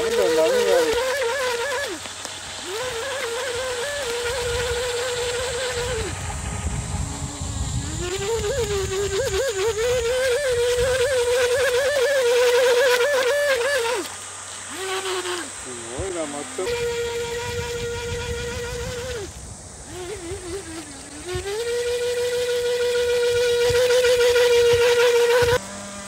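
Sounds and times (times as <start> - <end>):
model speedboat motor whining: 0.0 - 26.0.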